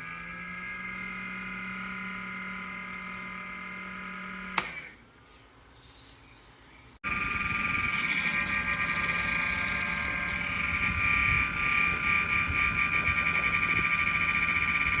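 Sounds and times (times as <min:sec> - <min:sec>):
fan motor whining: 0:00.0 - 0:05.0, 0:07.0 - 0:15.0.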